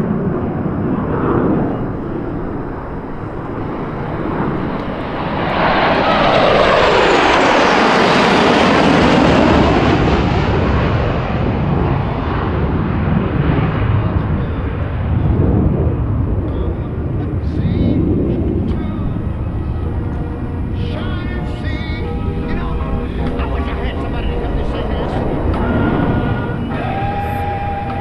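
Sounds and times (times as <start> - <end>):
jets flying past: 0.0 - 28.0.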